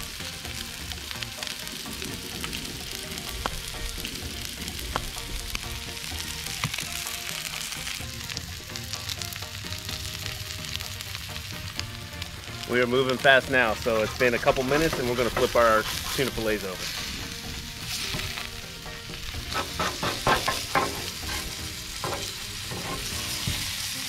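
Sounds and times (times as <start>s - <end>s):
fish sizzling on a griddle: 0.0s - 24.0s.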